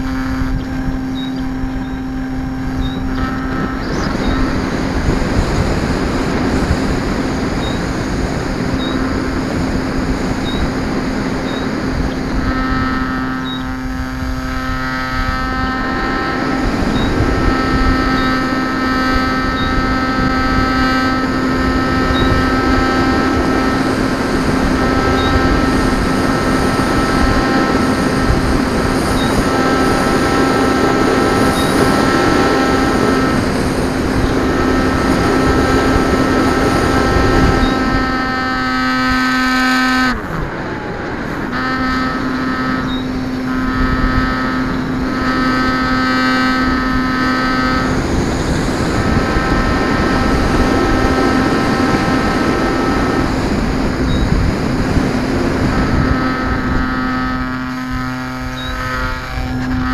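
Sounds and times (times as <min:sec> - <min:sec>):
model plane motor and propeller drone: 0:00.0 - 0:59.9
rushing air: 0:00.0 - 0:59.9.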